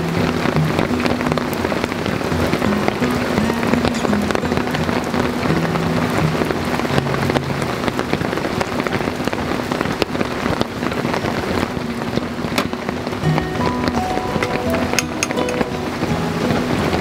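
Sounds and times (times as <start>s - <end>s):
rain pattering on a tarp: 0.0s - 17.0s.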